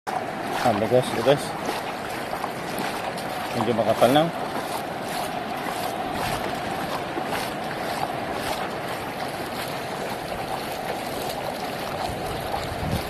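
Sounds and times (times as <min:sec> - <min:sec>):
floodwater rushing across road: 0:00.1 - 0:13.0.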